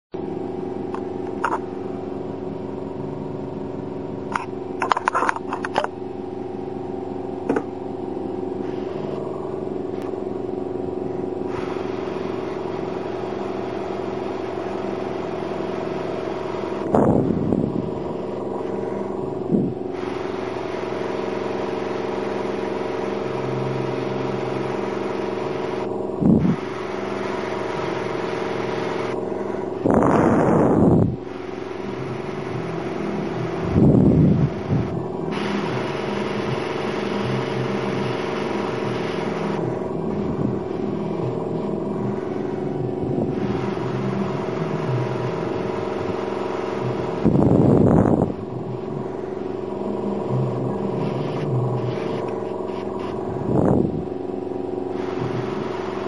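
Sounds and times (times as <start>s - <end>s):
airbrush compressor humming: 0.2s - 56.0s.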